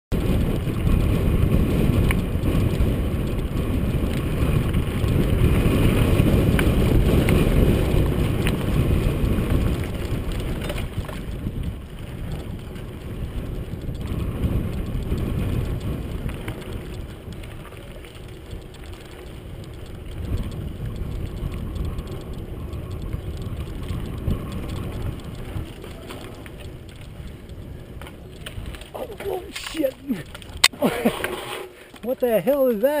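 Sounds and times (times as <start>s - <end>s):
wind on microphone: 0.1s - 31.9s
bike rattling: 0.1s - 33.0s
bike tyres on dirt trail: 0.1s - 33.0s
sharp clicks: 0.2s - 33.0s.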